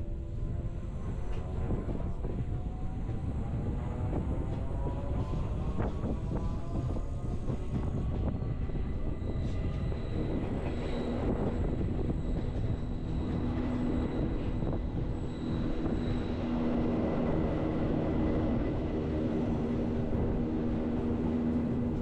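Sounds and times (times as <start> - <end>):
train wheels rattling on rails: 1.1 - 22.0.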